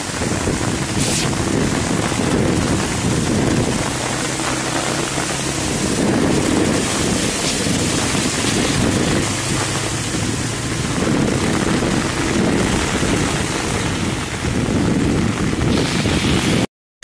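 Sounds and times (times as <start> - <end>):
water splashing: 0.0 - 14.6
motorcycle engine running: 0.0 - 16.0
heavy rain: 0.0 - 16.7.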